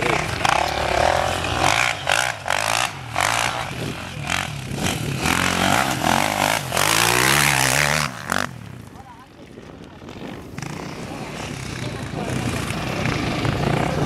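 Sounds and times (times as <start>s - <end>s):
motorcycle engine revving: 0.0s - 9.2s, 10.0s - 14.0s.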